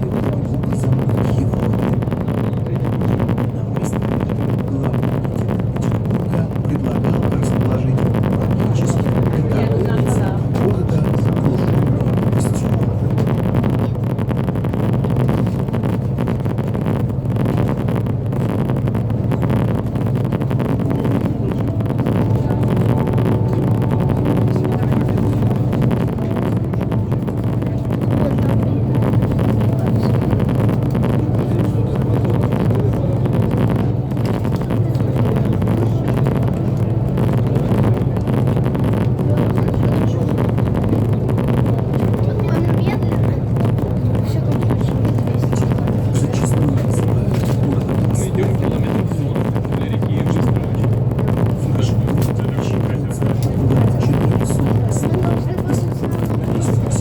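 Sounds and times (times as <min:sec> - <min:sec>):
diesel engines droning: 0:00.0 - 0:57.0
wind buffeting microphone: 0:00.0 - 0:57.0.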